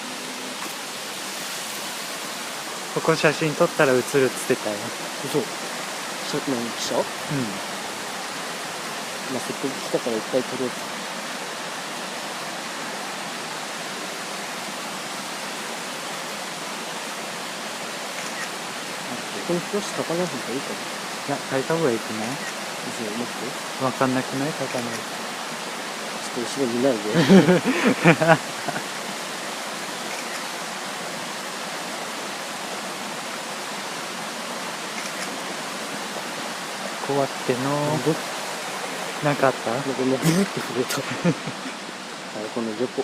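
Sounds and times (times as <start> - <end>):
fast-flowing river rushing: 0.0 - 43.0.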